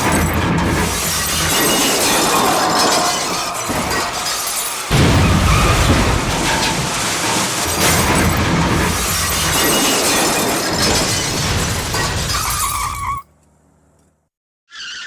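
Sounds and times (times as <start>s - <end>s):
glass and debris shattering: 0.0s - 13.2s.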